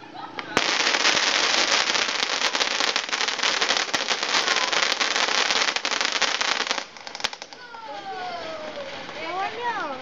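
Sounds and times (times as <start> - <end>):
firework hissing and crackling: 0.4 - 9.7.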